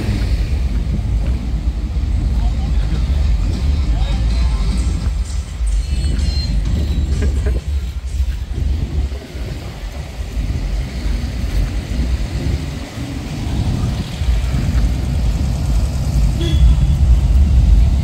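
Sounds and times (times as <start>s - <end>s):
cars driving slowly past: 0.0s - 18.0s.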